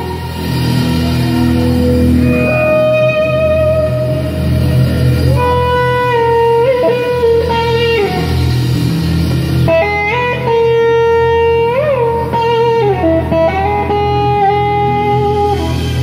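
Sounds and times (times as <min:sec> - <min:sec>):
electric guitar bending notes: 0:00.0 - 0:16.0
live rock band playing: 0:00.0 - 0:16.0.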